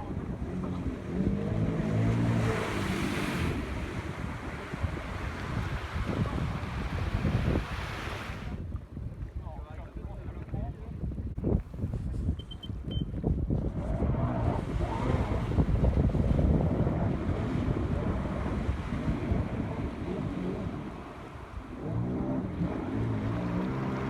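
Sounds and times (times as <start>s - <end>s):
jet ski engine running: 0.0s - 8.7s, 11.6s - 24.0s
wind buffeting microphone: 0.0s - 24.0s.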